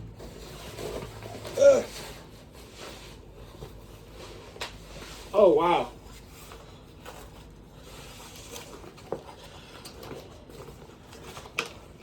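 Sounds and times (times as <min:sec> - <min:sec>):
plastic rustling and scraping: 0:00.0 - 0:12.0.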